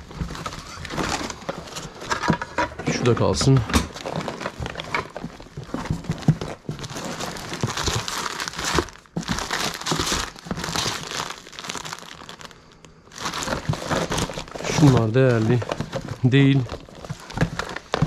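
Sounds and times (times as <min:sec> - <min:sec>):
plastic bags crinkling: 0:00.0 - 0:02.4, 0:03.0 - 0:18.0.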